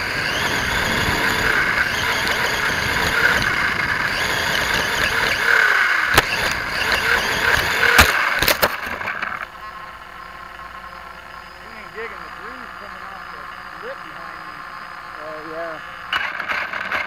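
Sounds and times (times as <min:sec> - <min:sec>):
electric motor whining: 0:00.0 - 0:17.0
tires on dirt and gravel: 0:00.0 - 0:17.0.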